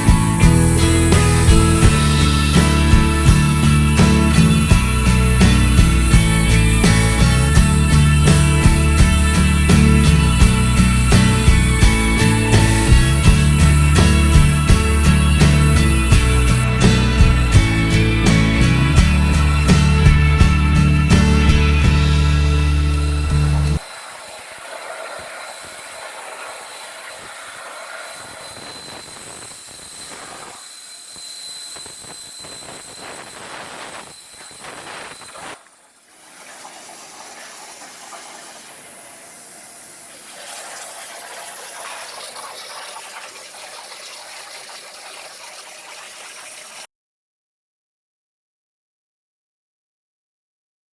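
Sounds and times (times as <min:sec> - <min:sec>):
cutting torch hissing: 0:00.0 - 0:46.9
faint high whine: 0:00.0 - 0:46.9.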